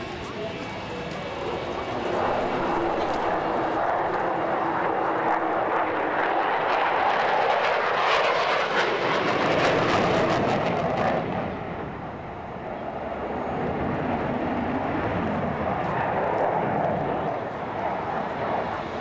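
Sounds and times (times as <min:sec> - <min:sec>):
jet fighters flying past: 0:00.0 - 0:19.0.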